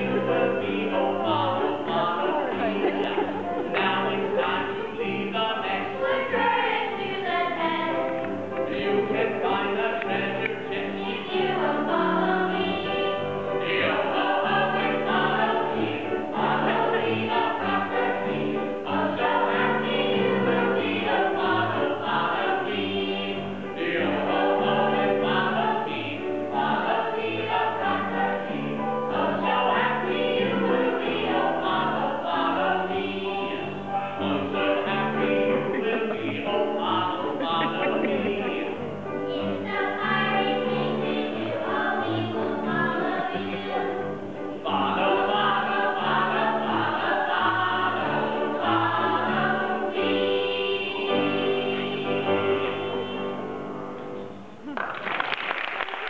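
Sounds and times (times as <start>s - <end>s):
children's choir singing: 0.0s - 53.9s
musical accompaniment: 0.0s - 54.8s.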